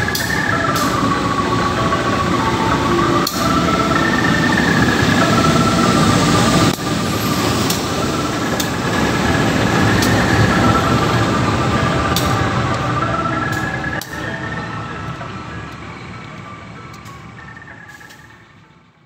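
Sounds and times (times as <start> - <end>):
diesel locomotive passing: 0.0 - 19.0
train carriages rumbling by: 0.0 - 19.0
wheels clacking on rails: 0.0 - 19.0.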